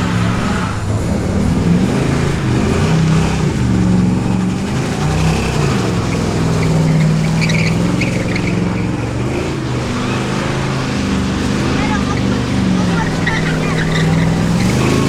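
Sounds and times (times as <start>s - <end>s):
car engine revving: 0.0s - 15.0s
tyres squealing: 0.0s - 15.0s.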